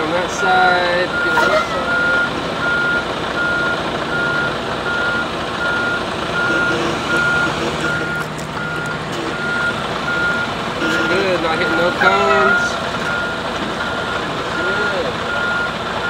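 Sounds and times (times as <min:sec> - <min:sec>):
truck engine: 0:00.0 - 0:16.0
truck backup alarm beeping: 0:00.2 - 0:16.0.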